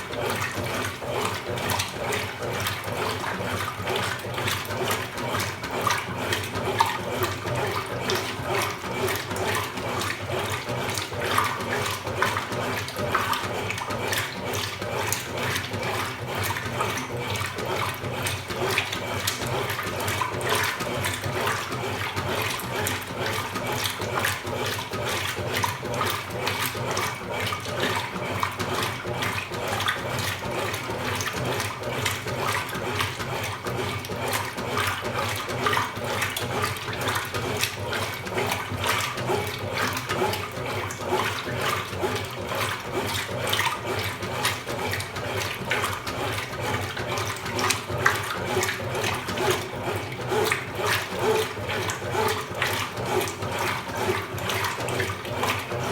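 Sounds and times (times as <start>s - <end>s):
water splashing in washing machine: 0.0s - 55.9s.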